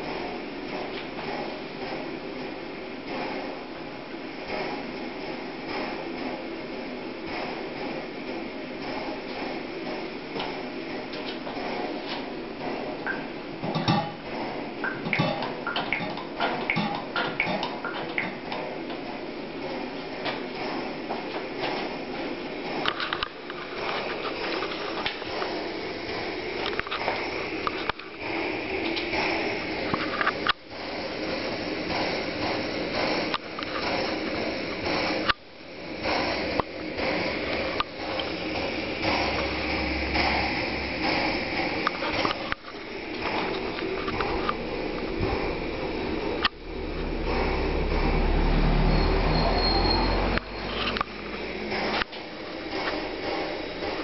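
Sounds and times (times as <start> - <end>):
flame popping and crackling: 0.0 - 47.6
stove burner hissing: 0.0 - 54.0.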